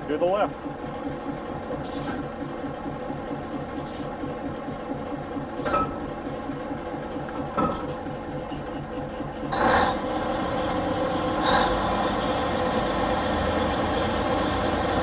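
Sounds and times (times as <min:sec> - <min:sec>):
crane engine running: 0:00.0 - 0:15.0.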